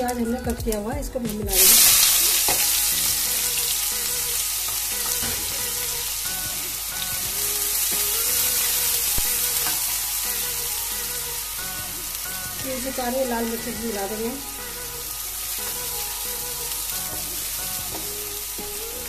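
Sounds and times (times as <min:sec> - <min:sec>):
spatula stirring pan: 0:00.7 - 0:19.0
onions sizzling in oil: 0:01.5 - 0:19.0.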